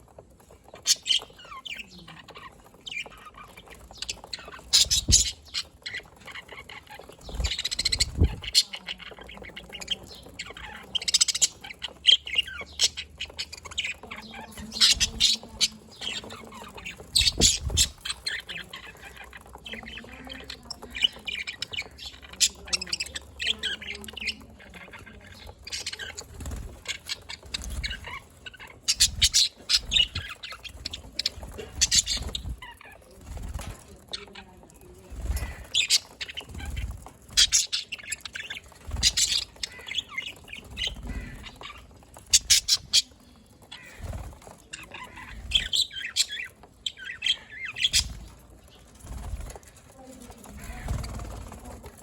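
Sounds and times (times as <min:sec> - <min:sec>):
budgerigars chirping and squawking: 0:00.0 - 0:52.0.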